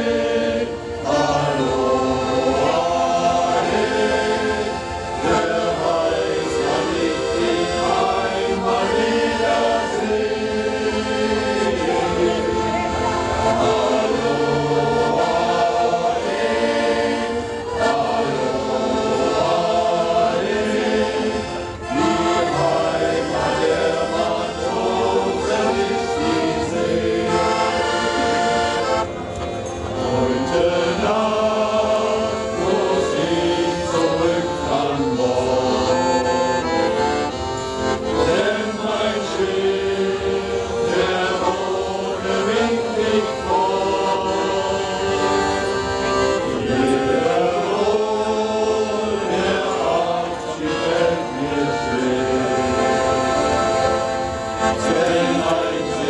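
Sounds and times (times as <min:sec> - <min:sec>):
men's choir singing: 0:00.0 - 0:29.1, 0:29.7 - 0:56.0
accordion: 0:00.0 - 0:56.0.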